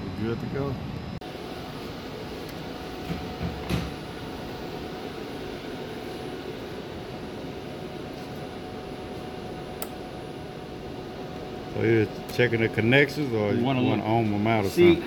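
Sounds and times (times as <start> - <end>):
air handler hum and air rush: 0.0 - 15.0.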